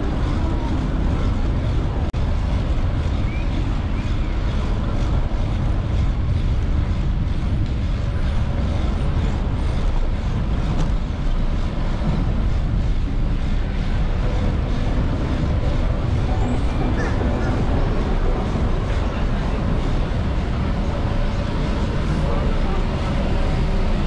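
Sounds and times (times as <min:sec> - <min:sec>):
street noise: 0:00.0 - 0:24.0
wind on microphone: 0:00.0 - 0:24.0.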